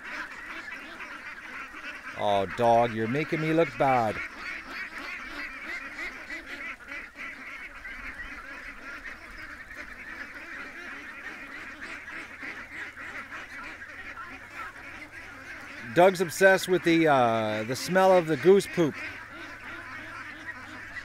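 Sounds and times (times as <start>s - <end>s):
ducks and geese calling: 0.0s - 21.0s.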